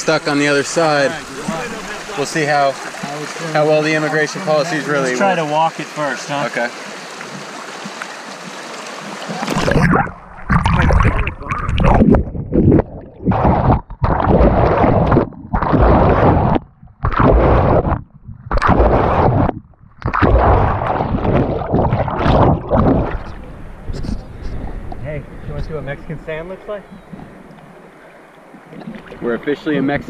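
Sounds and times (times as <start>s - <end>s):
water rushing: 0.0s - 18.0s, 18.6s - 30.0s
water splashing against camera: 0.0s - 30.0s.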